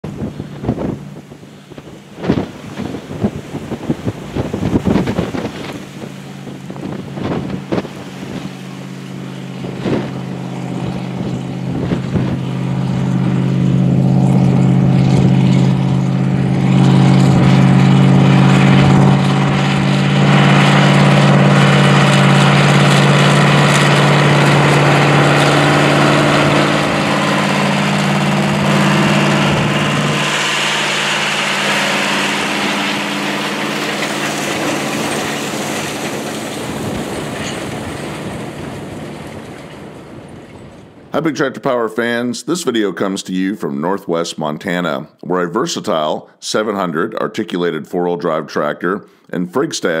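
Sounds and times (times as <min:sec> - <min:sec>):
tractor diesel engine droning: 0:00.0 - 0:41.9.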